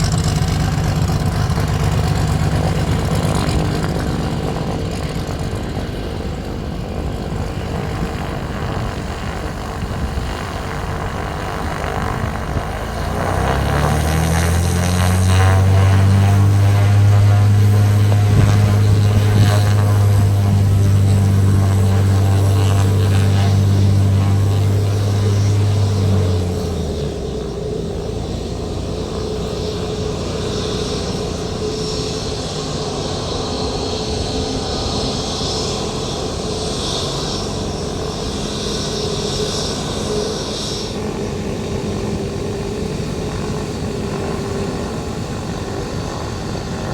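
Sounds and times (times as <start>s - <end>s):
aircraft engine drone: 0.0s - 46.9s
steady hum: 0.0s - 46.9s.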